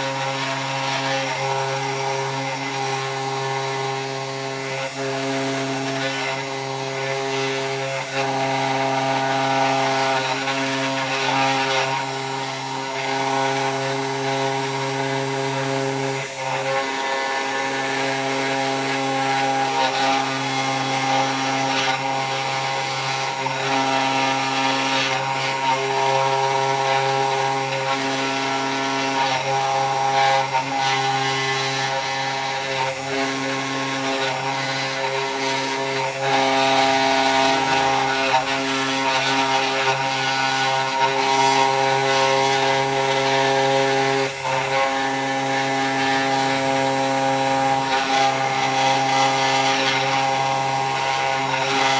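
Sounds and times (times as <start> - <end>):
router bit cutting wood: 0.0 - 51.9
router spindle hum: 0.0 - 51.9.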